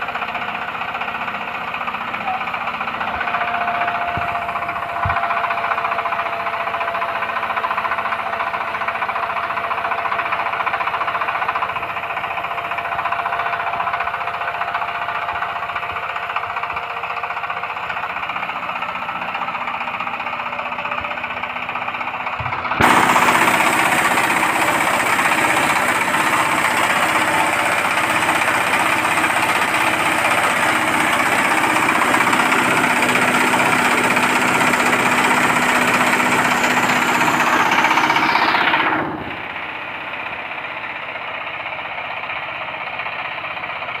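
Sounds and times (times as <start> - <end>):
hammer mill grinding corn: 0.0 - 43.9
diesel engine running: 0.0 - 44.0.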